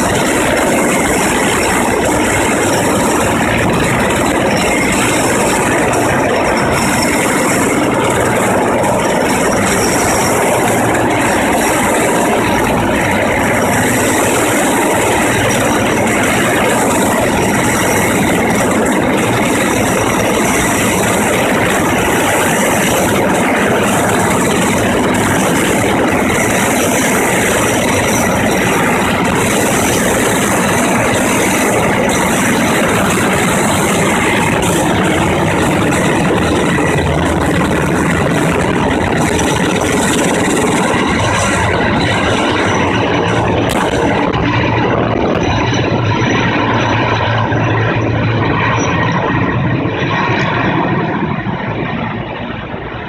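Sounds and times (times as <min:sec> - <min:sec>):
helicopter hovering: 0:00.0 - 0:53.0.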